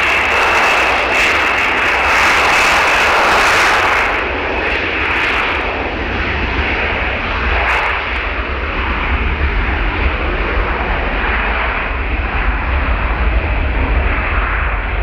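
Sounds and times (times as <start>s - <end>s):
jet engine roar with whine: 0.0s - 15.0s.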